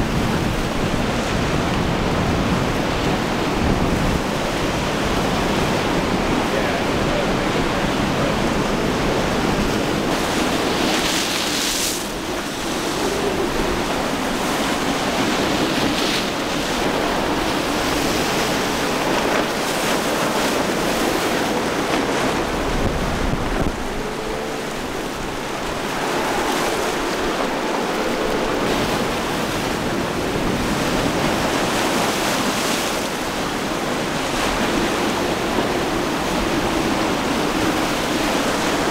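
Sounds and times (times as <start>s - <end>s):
faint boat engine hum: 0.0s - 38.9s
waves breaking: 0.0s - 38.9s
wind noise on microphone: 0.0s - 38.9s.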